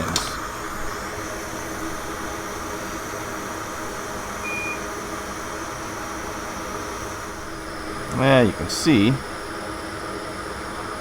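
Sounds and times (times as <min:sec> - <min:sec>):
hot air fan blowing: 0:00.0 - 0:11.0.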